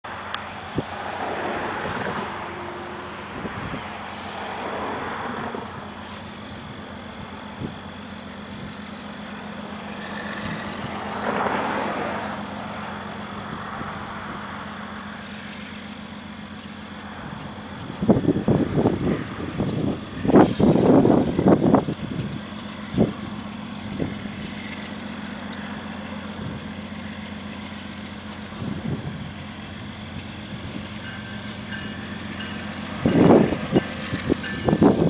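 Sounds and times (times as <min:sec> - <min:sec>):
diesel locomotive engines running: 0:00.0 - 0:35.0.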